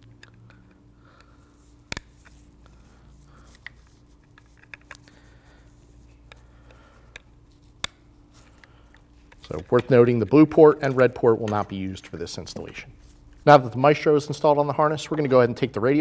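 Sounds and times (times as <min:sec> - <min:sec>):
wire handling rustle: 0:00.0 - 0:13.7.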